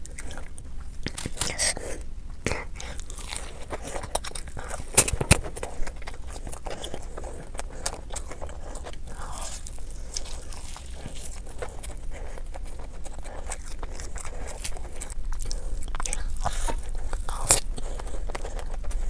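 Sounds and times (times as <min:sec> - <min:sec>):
crunchy bites: 0:00.0 - 0:19.0
wet chewing: 0:00.0 - 0:19.0.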